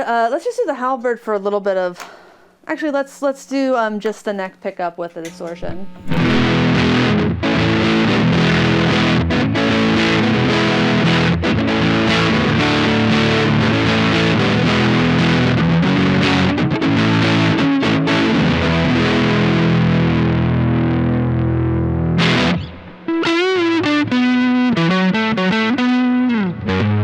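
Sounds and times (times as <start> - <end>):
distorted electric guitar chords: 5.3 - 27.0.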